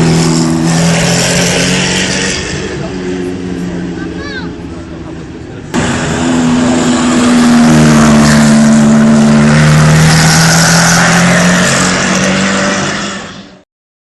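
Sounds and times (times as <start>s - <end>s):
car engine running loud: 0.0s - 13.6s.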